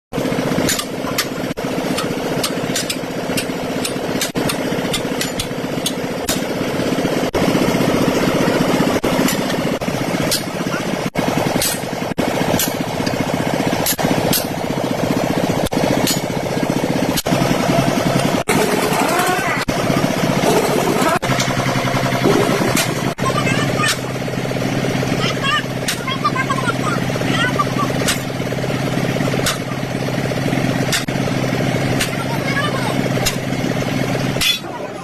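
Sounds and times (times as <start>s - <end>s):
engine idling: 0.2s - 35.0s.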